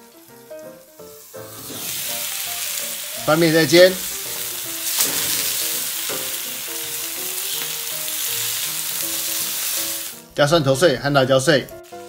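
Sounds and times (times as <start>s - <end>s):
prawns sizzling in hot oil: 0.0s - 12.0s
quiet plucked background music: 0.0s - 12.0s.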